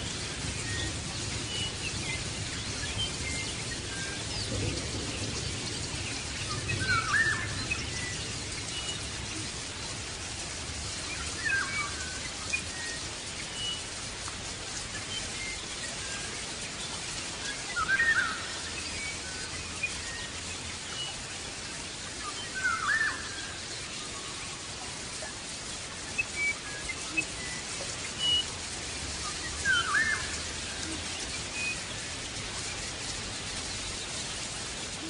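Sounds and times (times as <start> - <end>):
steady hiss: 0.0 - 35.0.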